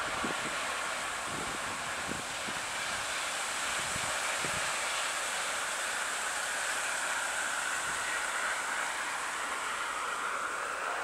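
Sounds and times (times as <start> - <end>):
train wheels hissing on rail: 0.0 - 11.0.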